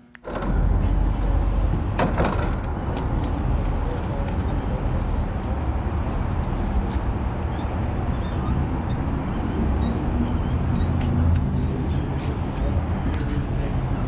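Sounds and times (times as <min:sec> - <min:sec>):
machinery rumble: 0:00.0 - 0:14.0.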